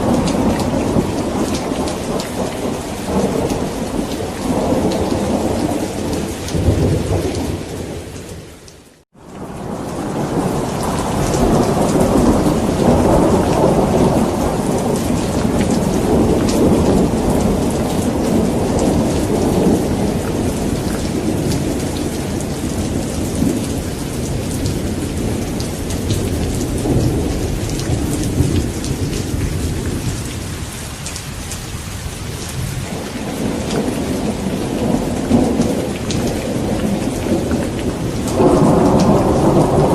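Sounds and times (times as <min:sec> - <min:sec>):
deep rolling thunder: 0:00.0 - 0:08.4, 0:09.4 - 0:30.7, 0:31.4 - 0:39.9
heavy rain: 0:00.0 - 0:39.9.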